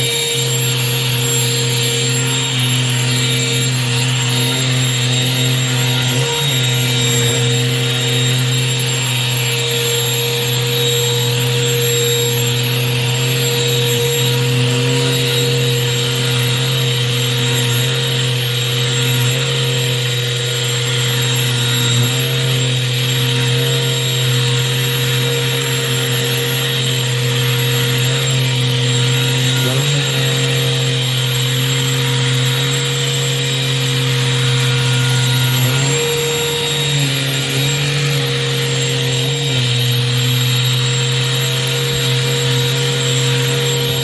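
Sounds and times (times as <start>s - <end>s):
handheld vacuum motor whine: 0.0s - 44.0s.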